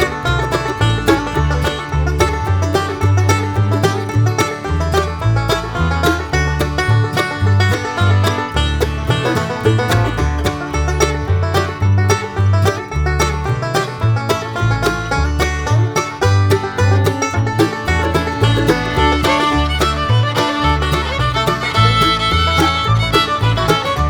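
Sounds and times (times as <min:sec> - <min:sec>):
banjo picking: 0:00.0 - 0:24.0
fiddle: 0:00.0 - 0:24.0
steady bass beat: 0:00.0 - 0:24.0.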